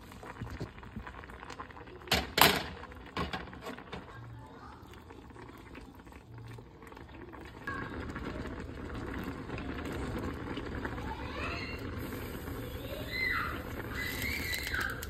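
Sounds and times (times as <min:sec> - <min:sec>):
thick sauce bubbling: 0:00.0 - 0:15.0.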